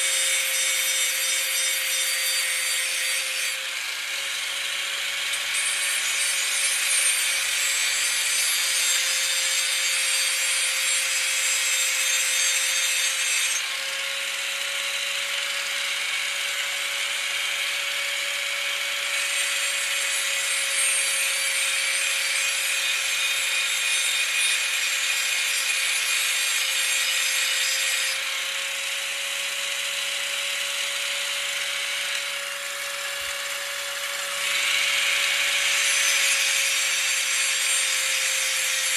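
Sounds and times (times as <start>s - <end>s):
angle grinder motor whine: 0.0s - 25.4s, 26.0s - 38.9s.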